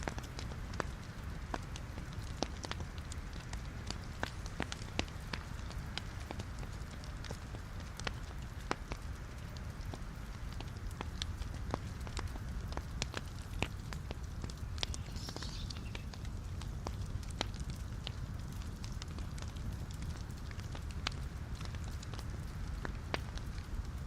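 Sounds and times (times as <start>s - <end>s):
logs crackling and popping: 0.0s - 24.0s
low rumble of flames: 0.0s - 24.0s.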